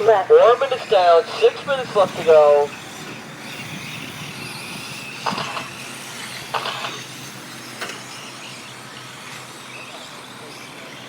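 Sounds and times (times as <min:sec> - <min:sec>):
trucks passing close by: 0:00.0 - 0:11.0
rc truck motors whining: 0:00.4 - 0:11.0.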